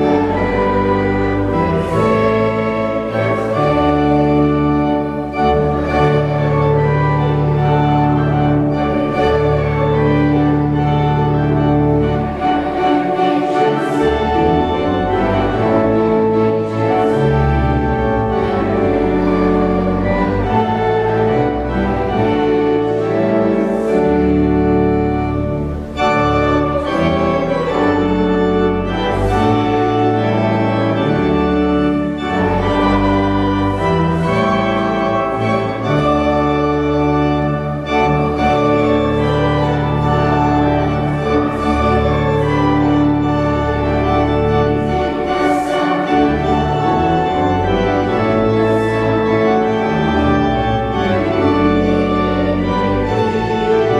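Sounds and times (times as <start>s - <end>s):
church organ chords: 0.0s - 53.9s.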